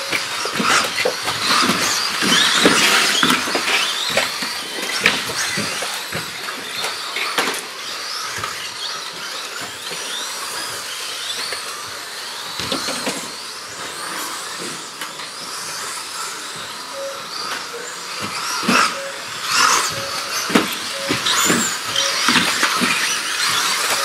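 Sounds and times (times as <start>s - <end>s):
electric toy car motors whining: 0.0s - 24.0s.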